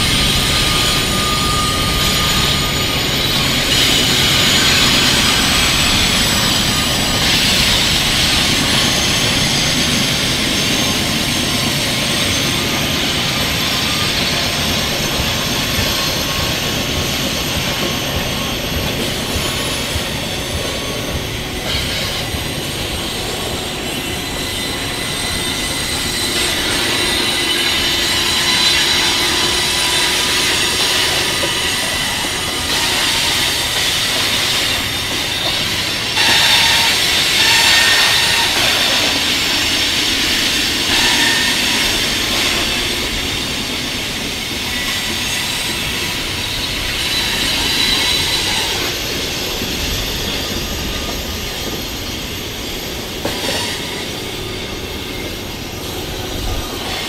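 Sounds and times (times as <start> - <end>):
rumble of rail cars: 0.0 - 57.0
train wheels squealing on rails: 0.0 - 57.0.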